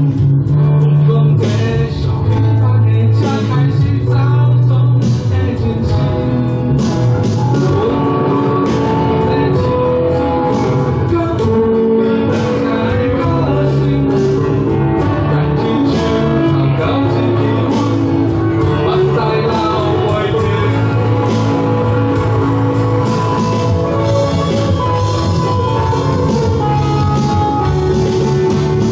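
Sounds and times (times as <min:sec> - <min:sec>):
live rock band playing: 0:00.0 - 0:28.9
man singing lead: 0:00.0 - 0:28.9.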